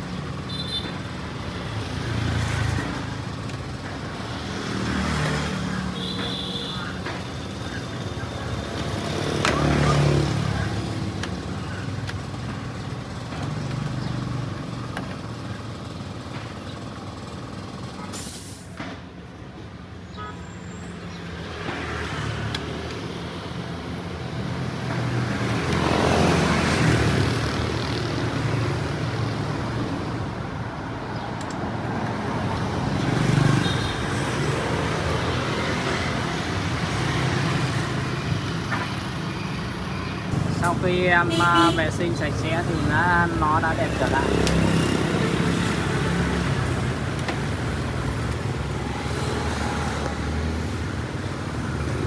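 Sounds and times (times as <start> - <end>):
road traffic rumble: 0.0 - 52.0
vehicles passing: 0.0 - 52.0.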